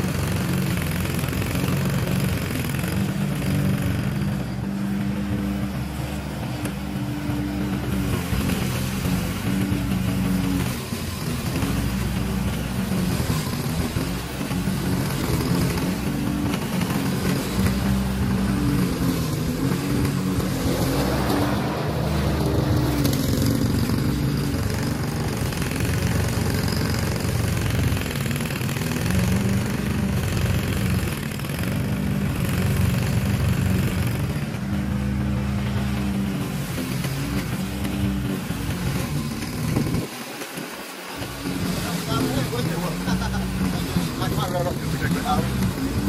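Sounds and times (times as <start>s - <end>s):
lawn mower engine running: 0.0s - 46.0s.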